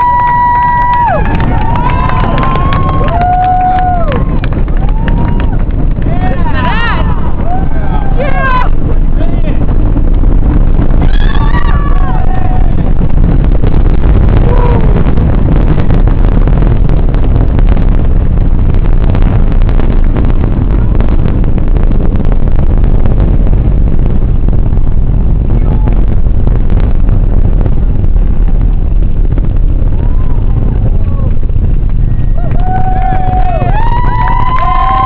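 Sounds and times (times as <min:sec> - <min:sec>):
rocket booster roaring: 0:00.0 - 0:35.0.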